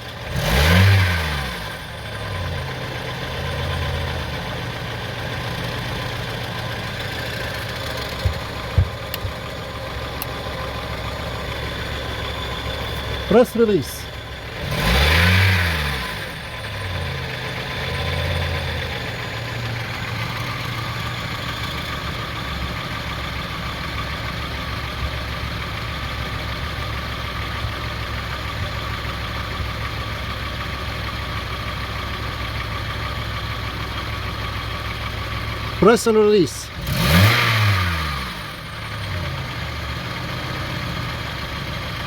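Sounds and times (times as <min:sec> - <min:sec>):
car engine revving and idling: 0:00.0 - 0:42.0.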